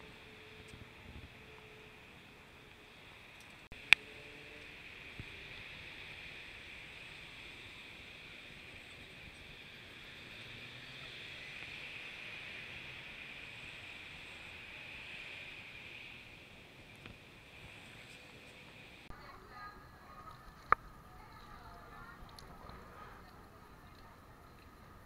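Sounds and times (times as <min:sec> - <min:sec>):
distant traffic: 0:00.0 - 0:25.0
wind: 0:00.0 - 0:25.0.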